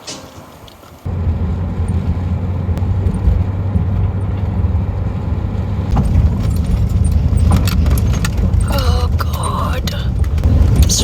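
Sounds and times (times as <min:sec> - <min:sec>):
sharp rattles: 0:00.0 - 0:11.0
van engine and tyre rumble: 0:00.0 - 0:11.0.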